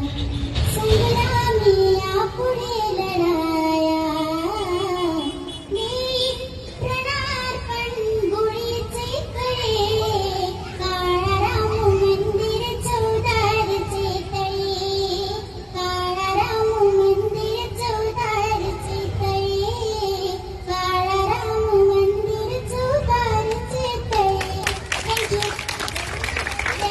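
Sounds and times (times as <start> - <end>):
girl singing wordless melody: 0.0 - 25.6.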